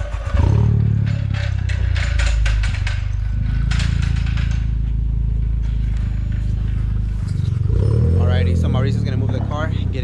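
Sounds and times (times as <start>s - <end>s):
car engine starting and idling: 0.0s - 10.0s
light mechanical clatter: 0.0s - 10.0s.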